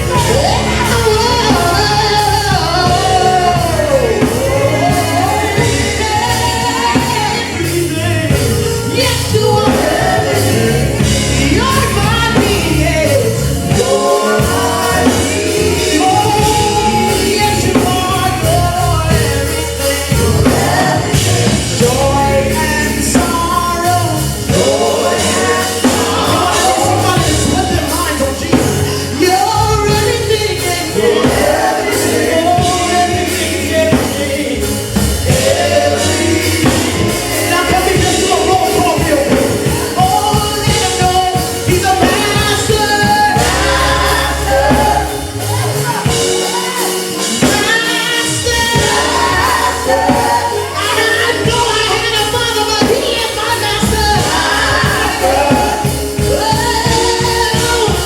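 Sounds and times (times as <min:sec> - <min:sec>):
bass and drums beat: 0:00.0 - 0:58.0
live gospel band: 0:00.0 - 0:58.0.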